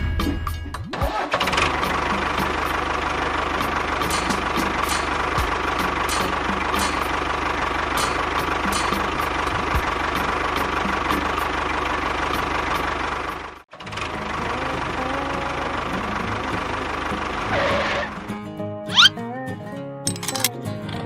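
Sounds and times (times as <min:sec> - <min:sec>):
small engine running: 0:01.0 - 0:19.1.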